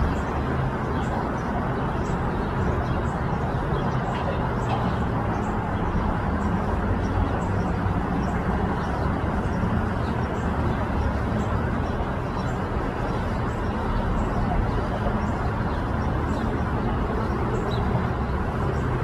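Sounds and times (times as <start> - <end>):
boat and jet ski engines droning: 0.0 - 19.0.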